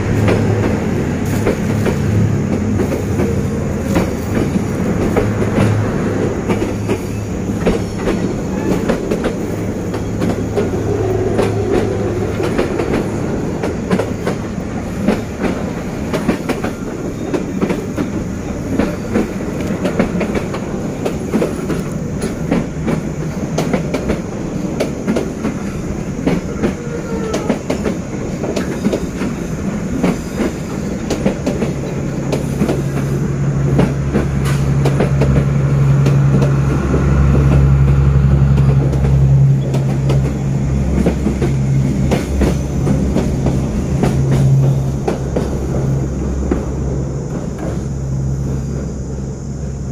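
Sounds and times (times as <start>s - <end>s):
low locomotive engine hum: 0.0s - 49.9s
train wheels clicking over rail joints: 0.0s - 49.9s.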